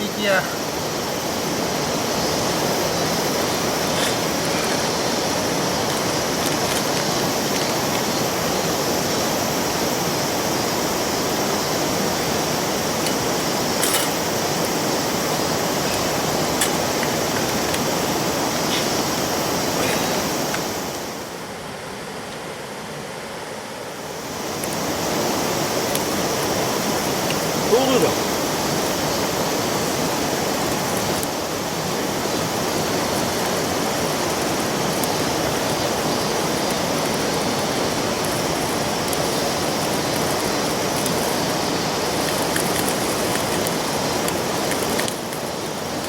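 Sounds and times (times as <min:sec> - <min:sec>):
river water rushing: 0:00.6 - 0:46.0.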